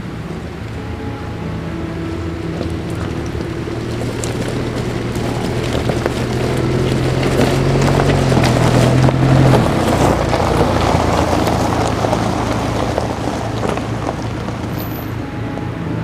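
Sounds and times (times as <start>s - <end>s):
car road and wind noise: 0.0s - 16.0s
low hum: 0.0s - 16.0s.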